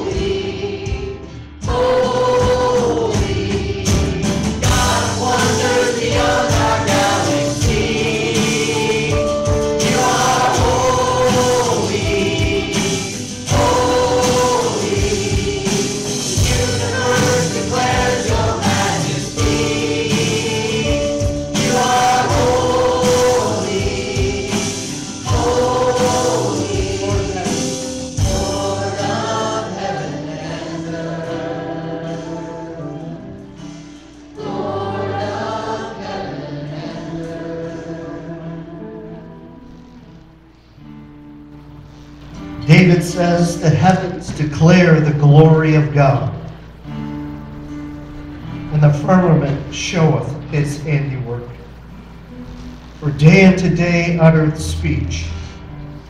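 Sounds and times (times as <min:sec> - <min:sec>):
choir singing gospel song: 0:00.0 - 0:56.0.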